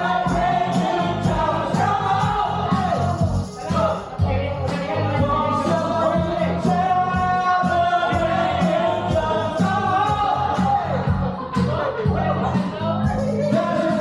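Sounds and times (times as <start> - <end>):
music with singing over a beat: 0.0 - 14.0.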